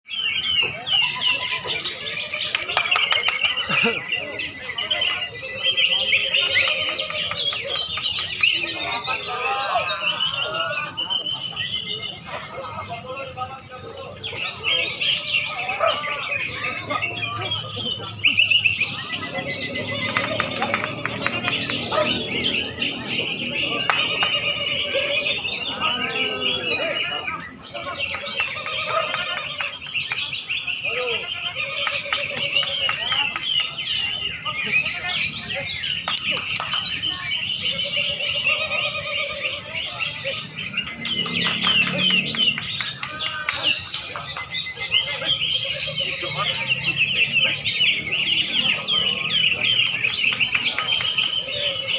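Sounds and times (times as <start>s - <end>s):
faint murmur of voices: 0.1s - 51.9s
songbirds chirping and trilling: 0.1s - 51.9s.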